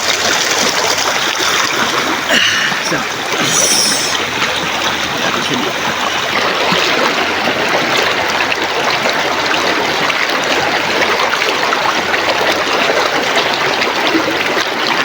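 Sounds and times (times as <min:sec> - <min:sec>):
river water babbling over rocks: 0:00.0 - 0:15.0.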